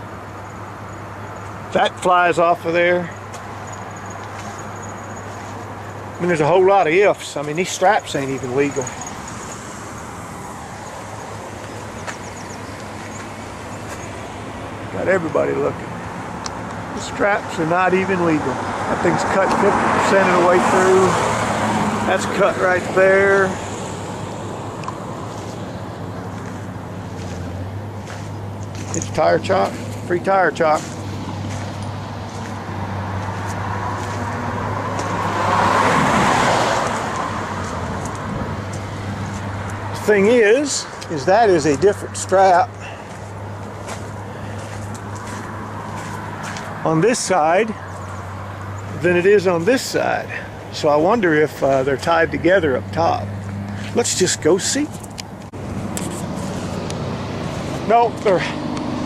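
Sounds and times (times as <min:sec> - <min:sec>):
road traffic noise: 0:00.0 - 0:59.0
vehicle passing: 0:00.0 - 0:59.0.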